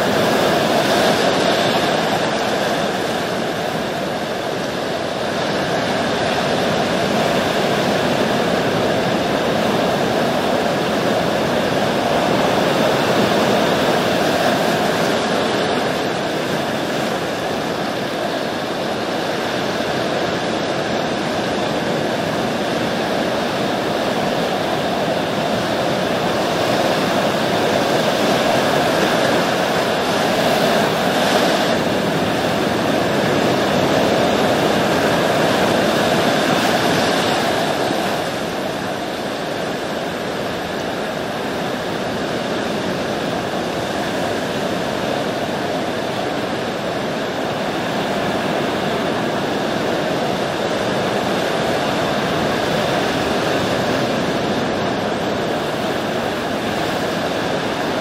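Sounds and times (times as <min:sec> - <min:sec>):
ocean waves rushing: 0:00.0 - 0:58.0.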